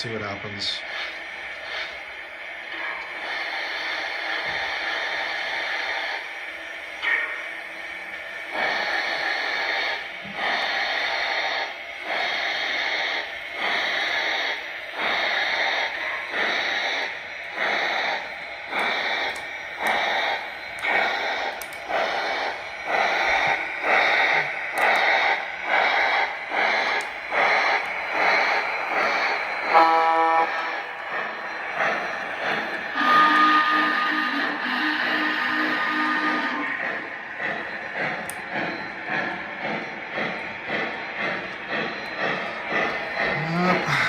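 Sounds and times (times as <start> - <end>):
model steam locomotive chuffs: 0.0 - 44.0.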